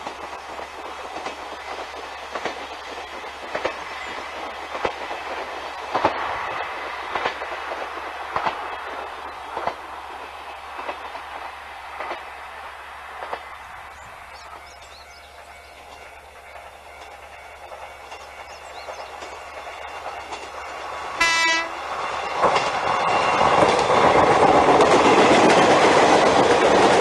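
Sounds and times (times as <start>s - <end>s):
diesel train rumble: 0.0s - 27.0s
wheels clacking over rail joints: 0.0s - 27.0s.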